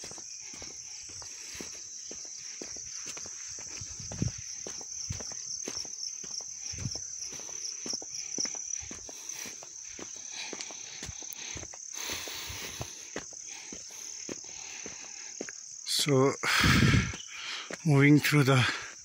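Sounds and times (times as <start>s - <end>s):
footsteps on dirt trail: 0.0s - 19.0s
insects droning: 0.0s - 19.0s.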